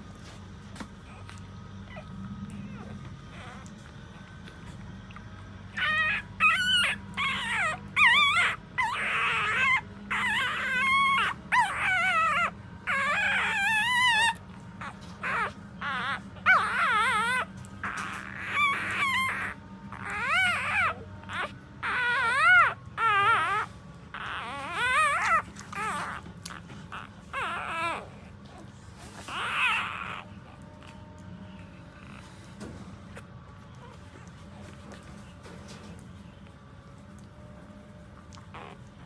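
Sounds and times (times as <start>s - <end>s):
puppies whimpering and squealing: 0.0s - 36.6s, 37.2s - 39.0s.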